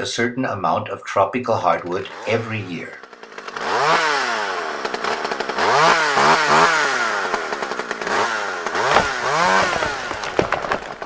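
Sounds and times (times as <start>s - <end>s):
chainsaw engine revving: 1.8s - 11.0s.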